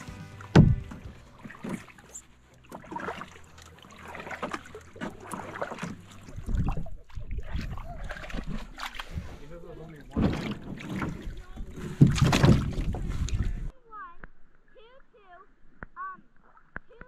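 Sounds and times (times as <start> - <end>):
kayak paddle splashing water: 0.0 - 13.7.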